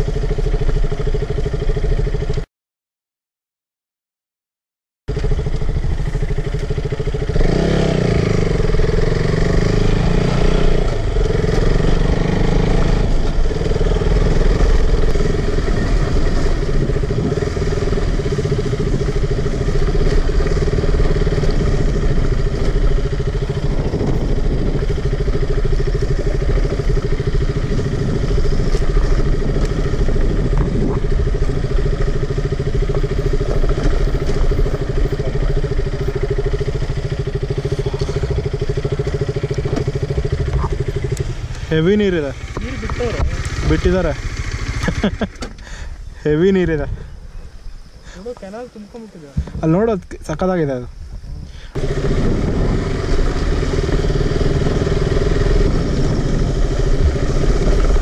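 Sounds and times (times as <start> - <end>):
motorcycle engine running: 0.0 - 2.5, 5.1 - 58.0.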